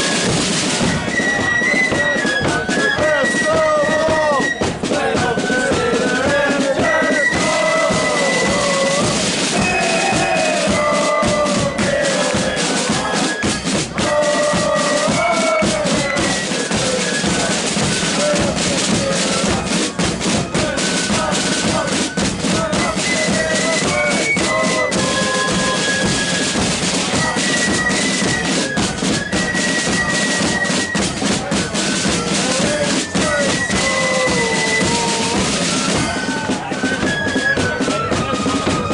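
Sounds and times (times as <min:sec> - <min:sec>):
flutes playing melody: 0:00.0 - 0:38.9
snare and bass drums: 0:00.0 - 0:38.9.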